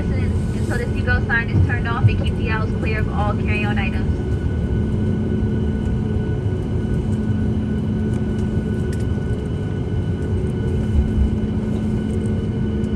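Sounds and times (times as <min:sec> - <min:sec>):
airplane cabin engine rumble: 0:00.0 - 0:12.9.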